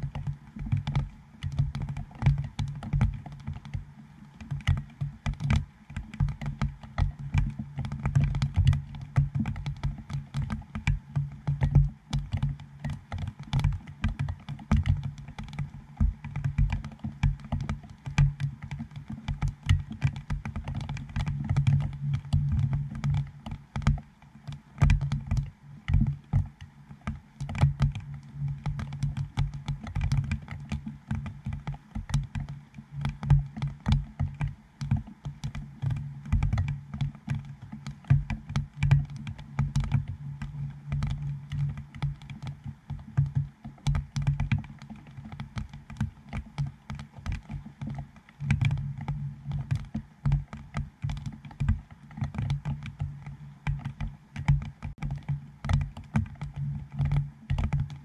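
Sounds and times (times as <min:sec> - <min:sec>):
raindrops tapping on plastic: 0:00.0 - 0:58.0.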